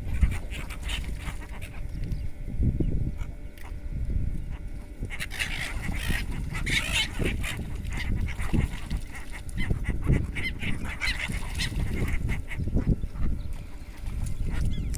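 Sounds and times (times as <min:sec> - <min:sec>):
steady low rumble: 0:00.0 - 0:14.9
flock of birds calling: 0:00.1 - 0:02.3, 0:04.5 - 0:14.9.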